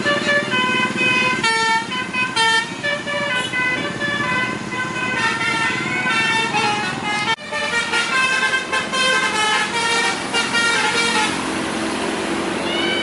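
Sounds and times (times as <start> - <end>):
bus musical horn tune: 0.0 - 11.5, 12.6 - 13.0.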